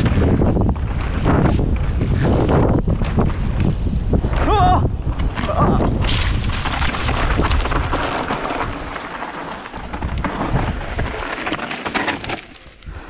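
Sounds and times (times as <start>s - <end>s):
wind rumbling on microphone: 0.0s - 11.6s
bike tyres clattering over dirt: 0.0s - 13.0s.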